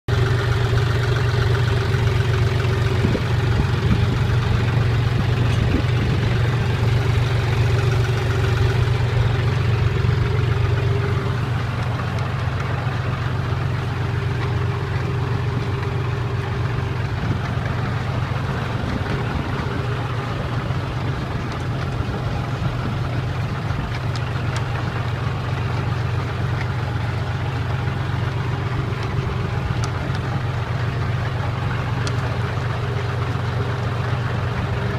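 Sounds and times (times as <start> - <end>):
tractor engine droning: 0.0 - 34.9.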